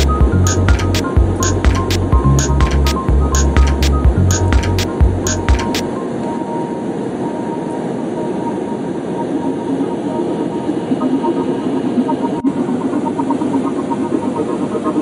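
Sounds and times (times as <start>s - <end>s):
turboprop engines droning in cabin: 0.0s - 15.0s.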